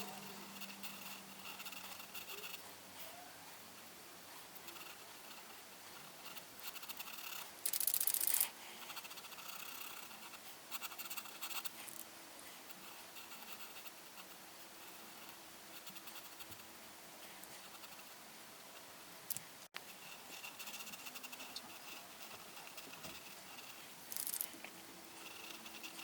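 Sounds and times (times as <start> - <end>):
coloring tool scratching on paper: 0.0 - 2.6, 4.6 - 12.0, 12.7 - 16.6, 17.5 - 18.2, 19.9 - 26.0.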